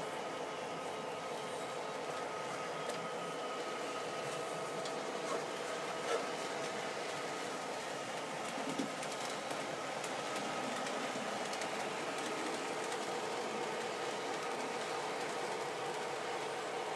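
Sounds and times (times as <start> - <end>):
model train mechanical hum: 0.0 - 16.9.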